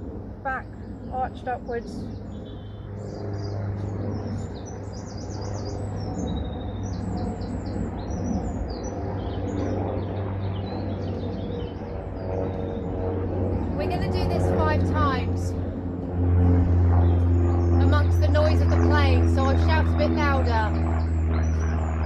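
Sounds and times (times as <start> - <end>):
aeroplane rumble overhead: 0.0 - 22.0
small birds chirping: 0.4 - 15.8, 16.6 - 22.0.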